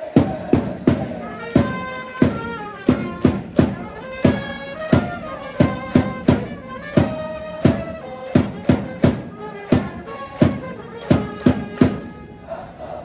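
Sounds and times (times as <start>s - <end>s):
drum beating steadily: 0.0s - 12.3s
brass melody: 0.0s - 12.8s.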